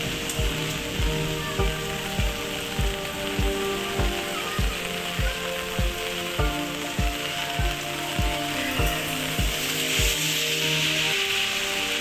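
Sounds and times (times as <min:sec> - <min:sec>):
background music with low beat: 0:00.0 - 0:11.4
heavy rain on wet street: 0:00.0 - 0:12.0.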